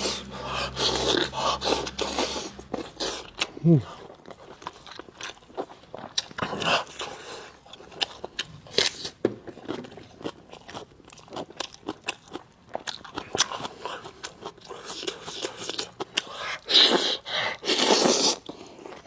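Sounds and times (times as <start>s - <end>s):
biting and chewing meat: 0.0s - 19.0s.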